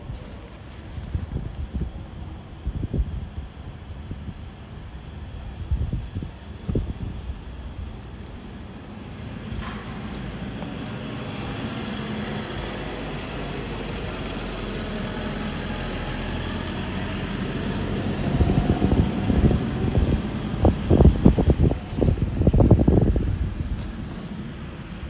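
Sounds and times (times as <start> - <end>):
vehicle engine and tyre noise: 0.0 - 25.0
wind buffeting microphone: 0.0 - 25.0.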